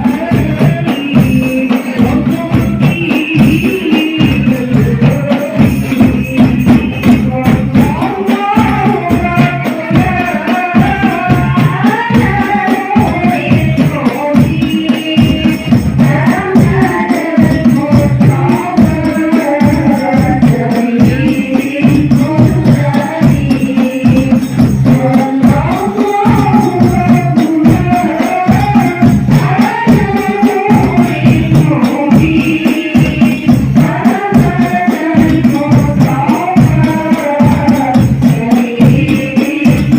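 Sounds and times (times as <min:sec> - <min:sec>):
frame drums beating: 0:00.0 - 0:39.9
person singing devotional melody: 0:00.0 - 0:39.9.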